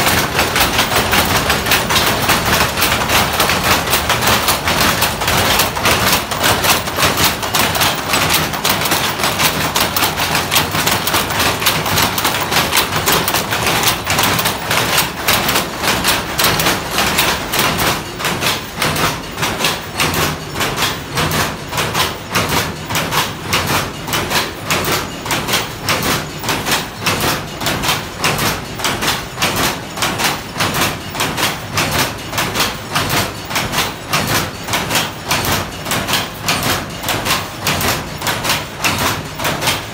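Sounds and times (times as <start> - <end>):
loom shuttle and beater clacking: 0.0 - 39.9.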